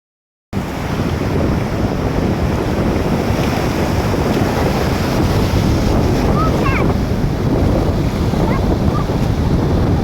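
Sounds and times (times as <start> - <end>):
ocean surf rushing: 0.6 - 10.0
wind buffeting microphone: 0.6 - 10.0.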